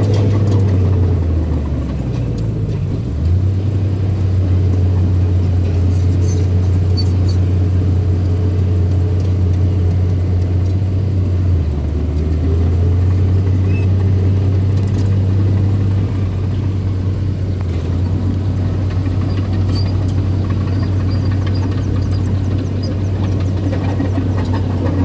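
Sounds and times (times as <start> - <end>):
bulldozer engine droning: 0.0 - 25.0.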